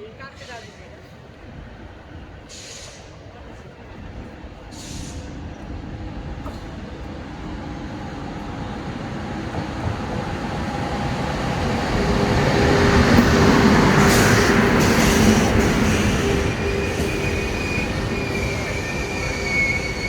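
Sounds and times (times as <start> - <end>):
train approaching on rails: 0.0 - 20.0.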